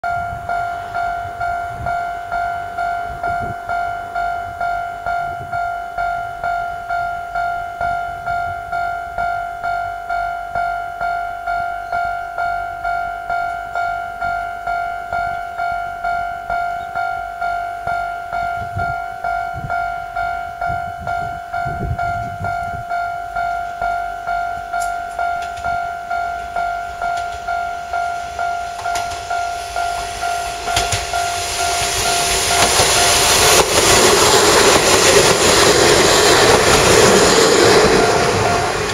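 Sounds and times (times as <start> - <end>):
level crossing bell dinging: 0.0 - 33.2
diesel railcar passing: 0.0 - 38.9.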